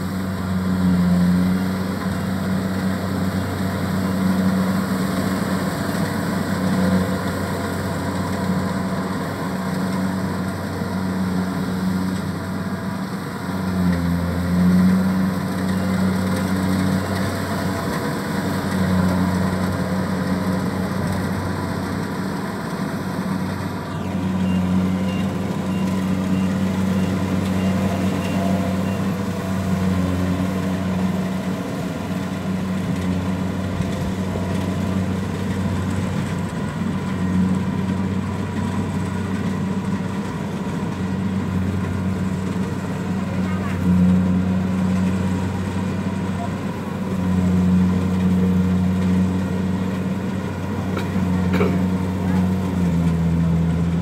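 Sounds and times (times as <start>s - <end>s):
combine harvester engine running: 0.0s - 54.0s.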